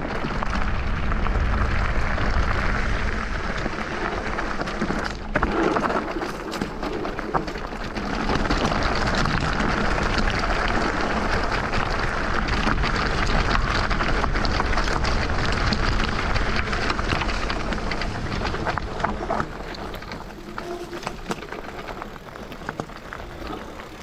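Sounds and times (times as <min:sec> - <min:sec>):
tyres crackling on stones: 0:00.0 - 0:24.0
tyres rolling over gravel: 0:00.0 - 0:24.0.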